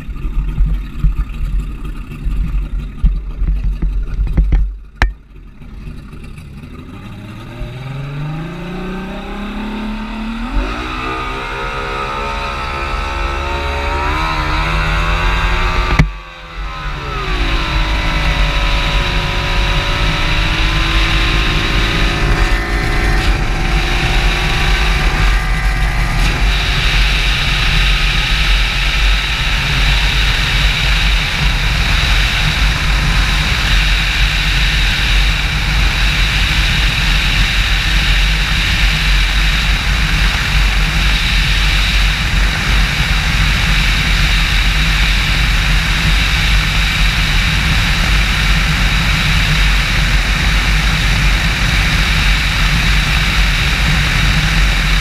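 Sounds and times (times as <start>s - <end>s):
outboard motor at full throttle: 0.0s - 55.0s
wind rushing: 10.4s - 55.0s.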